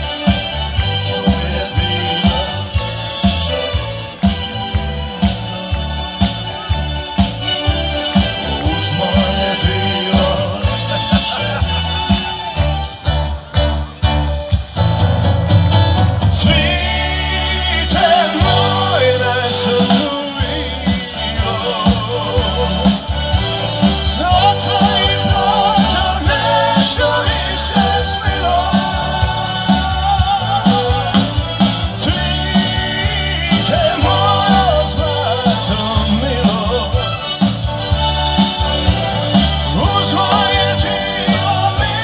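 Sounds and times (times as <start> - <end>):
live band playing pop song: 0.0 - 42.0.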